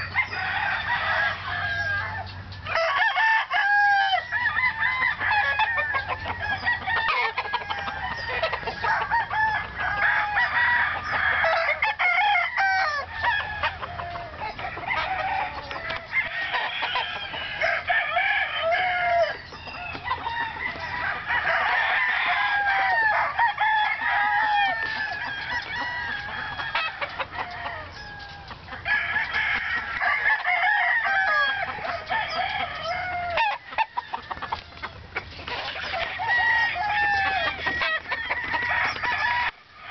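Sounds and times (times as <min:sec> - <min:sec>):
chickens clucking: 0:00.0 - 0:39.9
roosters crowing: 0:00.0 - 0:39.9.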